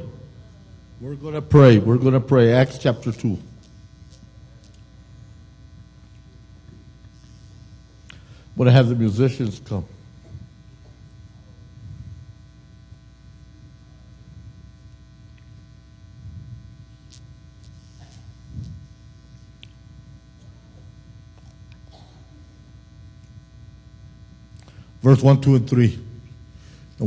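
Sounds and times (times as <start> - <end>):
electrical buzz and hum: 0.0 - 27.0.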